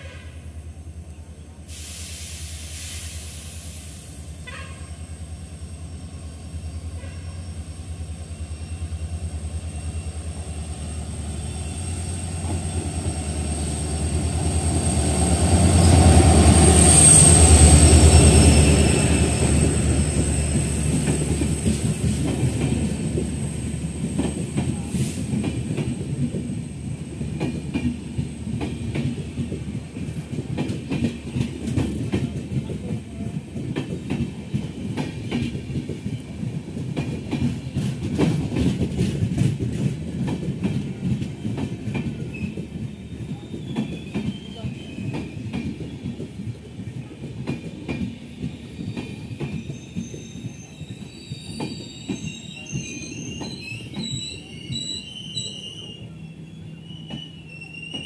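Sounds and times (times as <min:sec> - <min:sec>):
diesel locomotive engine rumble: 0:00.0 - 0:58.0.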